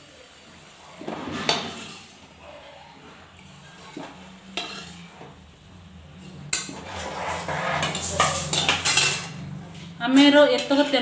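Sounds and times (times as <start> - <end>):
metal spoon scraping a wok: 1.0 - 11.0.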